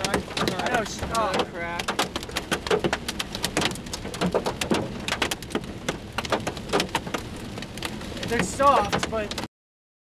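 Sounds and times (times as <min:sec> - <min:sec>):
hail pelting car roof: 0:00.0 - 0:09.5.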